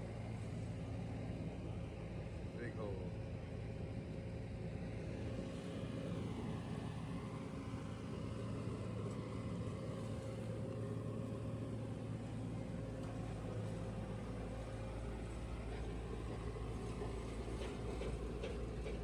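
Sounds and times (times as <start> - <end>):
heavy machinery engine humming: 0.0 - 19.0.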